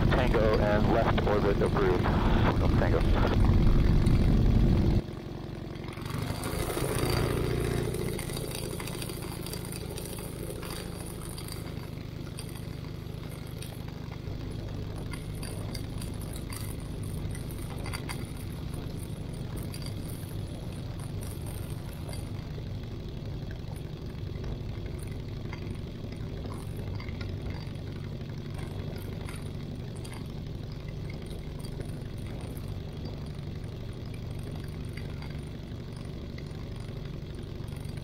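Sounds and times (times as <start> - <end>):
light aircraft engine humming: 0.0 - 38.0
light ticks and rattles: 5.7 - 38.0.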